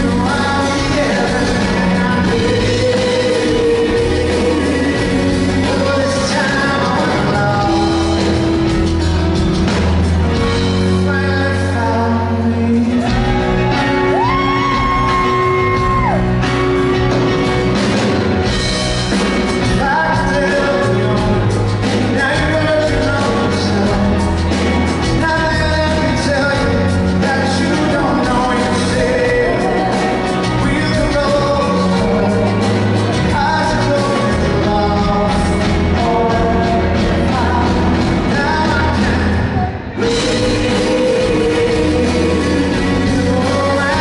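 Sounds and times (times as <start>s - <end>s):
man singing: 0.0s - 9.2s, 10.2s - 16.3s, 19.1s - 44.0s
acoustic guitar: 0.0s - 44.0s
band with drums and keyboards: 0.0s - 44.0s.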